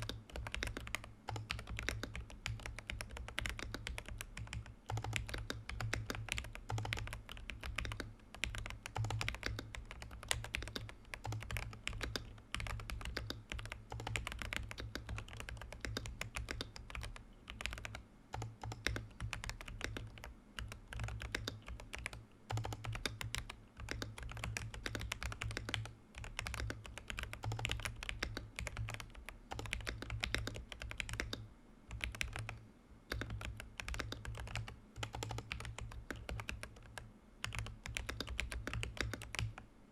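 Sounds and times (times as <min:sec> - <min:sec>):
mechanical keyboard typing: 0:00.0 - 0:39.6.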